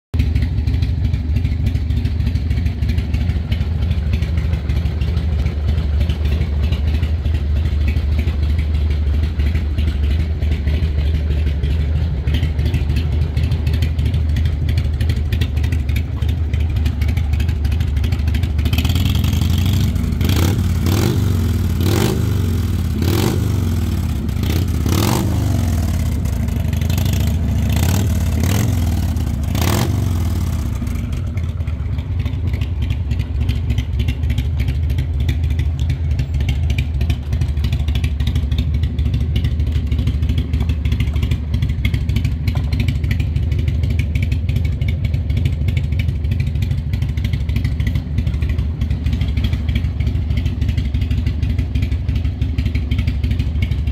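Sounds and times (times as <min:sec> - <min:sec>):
motorcycle engine idling and revving: 0:00.1 - 0:53.9.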